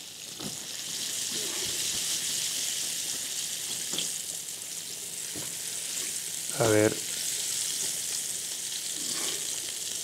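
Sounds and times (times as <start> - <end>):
fish sizzling in frying pan: 0.0 - 10.0.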